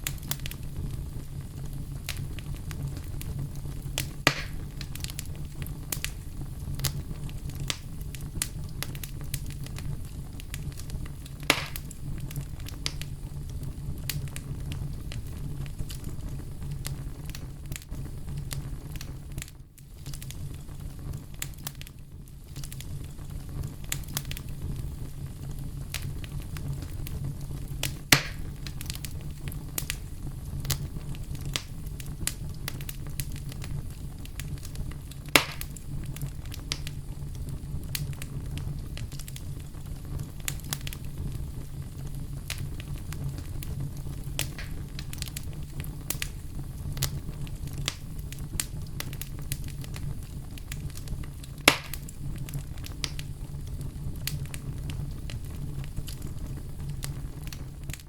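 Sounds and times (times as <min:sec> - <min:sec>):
campfire crackling: 0:00.0 - 0:58.0
fire popping: 0:00.0 - 0:58.0
low fire rumble: 0:00.0 - 0:58.0.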